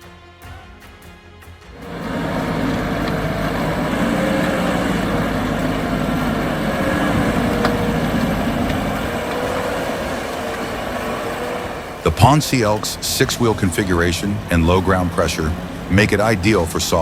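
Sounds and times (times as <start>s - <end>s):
heavy vehicle engine running: 1.7s - 17.0s.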